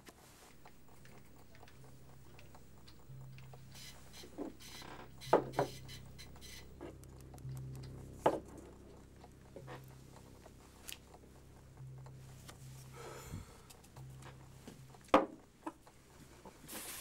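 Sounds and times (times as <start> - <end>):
low hum: 0.0 - 16.7.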